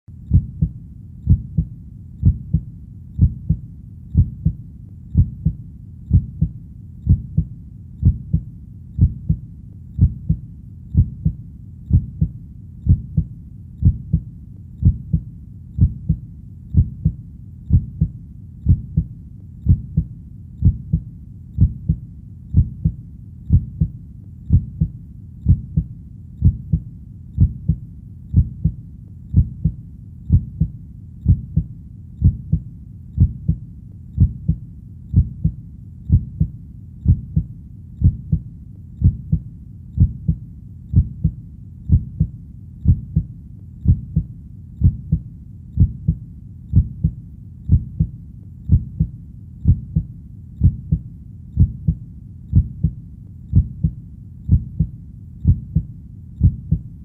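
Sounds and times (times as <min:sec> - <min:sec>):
steady low background: 0:00.1 - 0:57.0
heartbeat thumps: 0:00.2 - 0:57.0.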